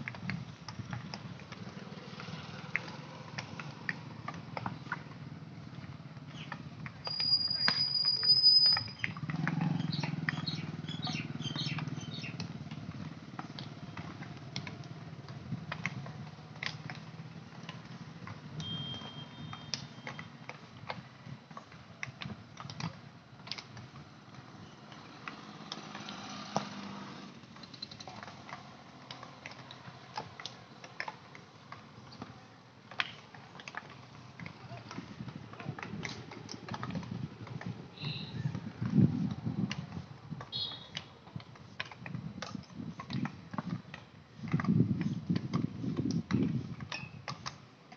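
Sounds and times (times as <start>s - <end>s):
hockey sticks clacking balls: 0.0s - 8.1s, 8.7s - 26.8s, 27.5s - 47.9s.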